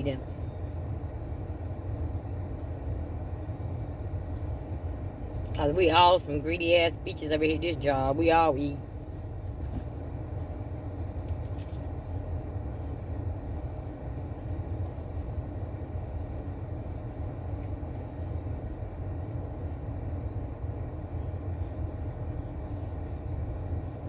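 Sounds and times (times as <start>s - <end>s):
steady low rumble with hum: 0.0s - 24.0s.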